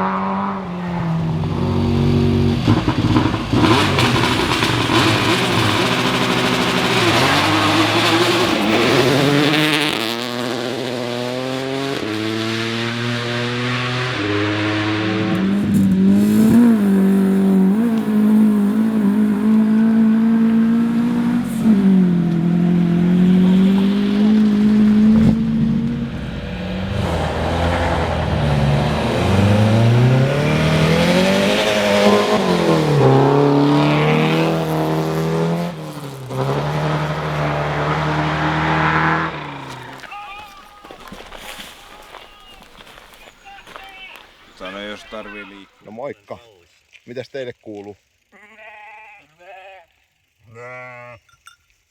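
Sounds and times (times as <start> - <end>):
rally car engines running hard: 0.0 - 45.1.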